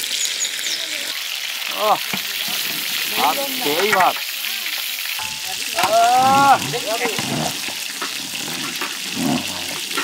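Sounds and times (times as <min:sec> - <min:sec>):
fish frying in oil: 0:00.0 - 0:10.0.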